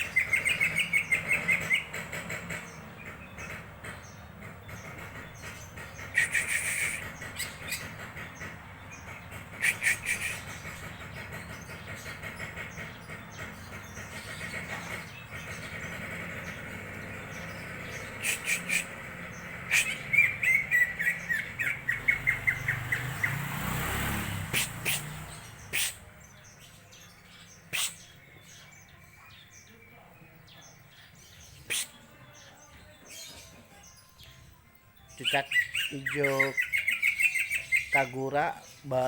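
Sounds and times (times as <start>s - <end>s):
bird chirping: 0.0s - 39.0s.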